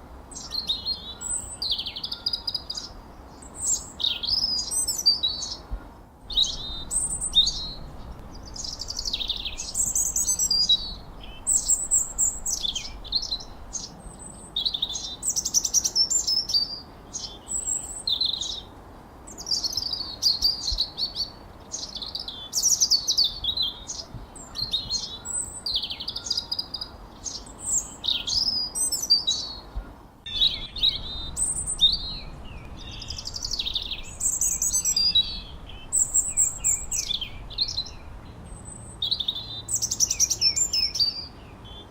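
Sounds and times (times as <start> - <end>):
songbirds chirping and whistling: 0.0 - 41.9.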